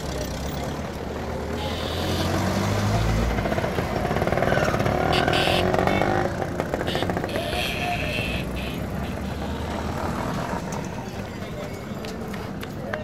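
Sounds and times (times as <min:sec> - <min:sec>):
vehicle engine passing close: 0:00.0 - 0:11.3
road traffic: 0:00.0 - 0:13.0.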